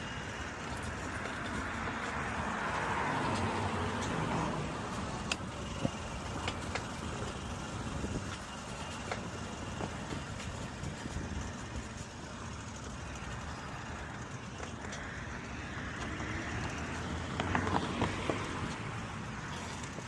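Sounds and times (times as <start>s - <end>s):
road rumble: 0.0s - 20.0s.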